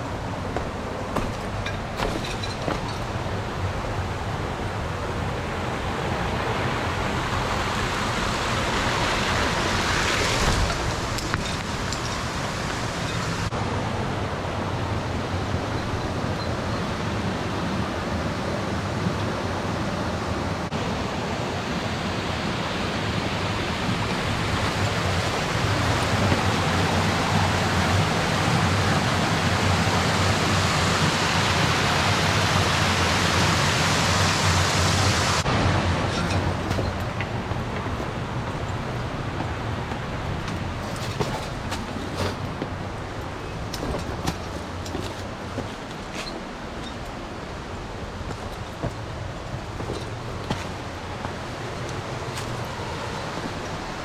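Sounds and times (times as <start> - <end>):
water rushing in a stream: 0.0 - 54.0.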